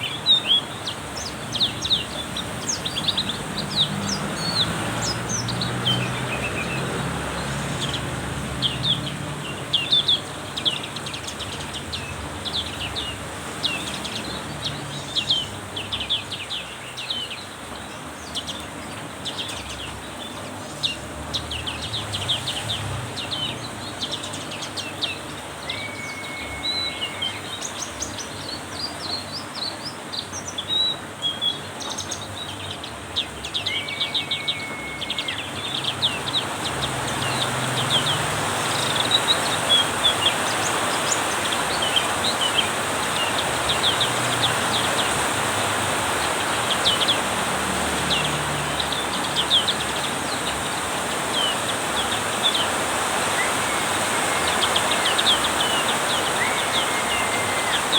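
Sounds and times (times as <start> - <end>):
bird chirping: 0.0 - 57.9
heavy rain hiss: 0.0 - 57.9.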